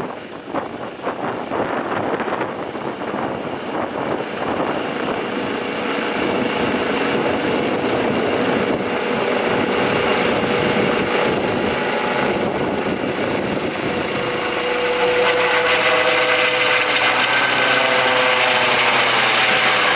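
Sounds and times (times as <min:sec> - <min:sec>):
helicopter rotor and turbine whine: 0:00.0 - 0:19.9.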